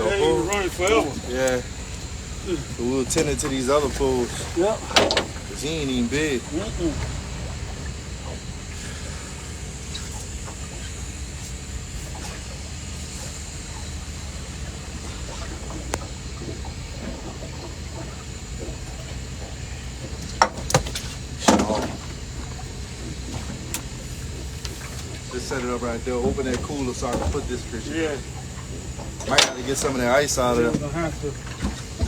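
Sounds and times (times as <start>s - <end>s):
boat motor humming: 0.0s - 32.0s
knocks and rattle on boat: 0.0s - 32.0s.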